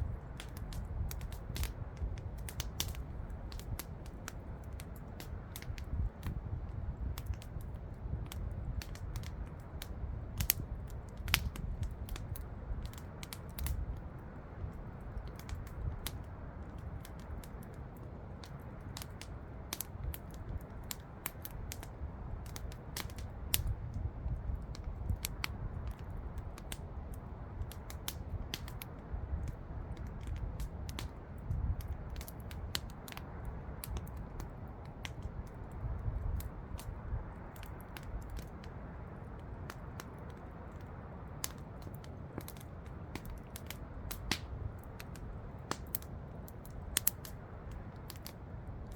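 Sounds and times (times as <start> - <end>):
low steady fire rumble: 0.0 - 48.9
wood crackling and popping: 0.0 - 48.9.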